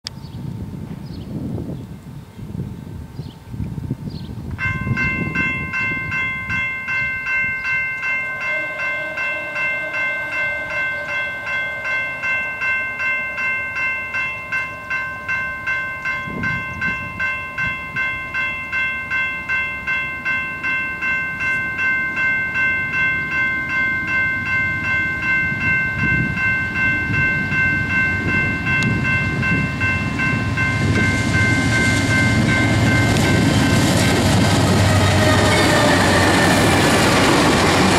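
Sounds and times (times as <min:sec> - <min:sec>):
freight train rumble: 0:00.0 - 0:37.9
crossing warning bell ringing: 0:04.5 - 0:37.9.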